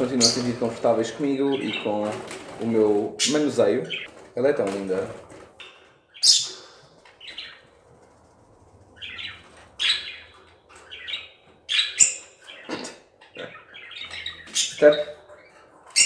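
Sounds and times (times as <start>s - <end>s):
caged birds chirping and squawking: 0.0s - 16.0s.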